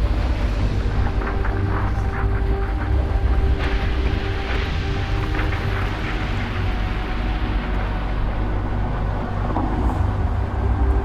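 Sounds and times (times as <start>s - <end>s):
deep tunnel rumble: 0.0s - 11.0s.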